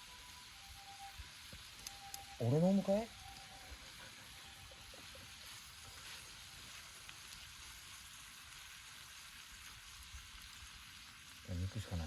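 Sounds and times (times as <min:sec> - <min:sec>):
campfire crackles: 0:00.0 - 0:12.0
meat sizzling: 0:00.0 - 0:12.0.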